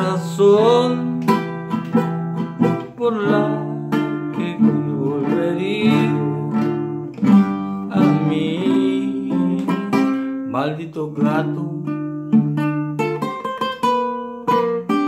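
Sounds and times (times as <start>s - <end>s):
acoustic guitar plucked: 0.0s - 15.0s.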